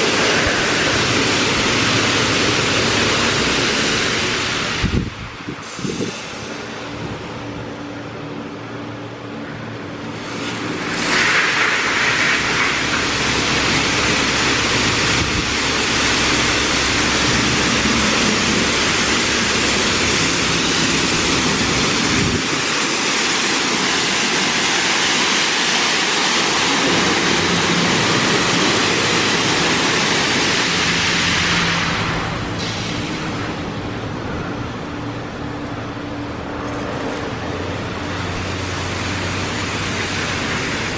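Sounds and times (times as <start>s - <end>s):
high-pressure water jets spraying: 0.0s - 7.3s, 10.0s - 34.0s, 36.6s - 40.9s.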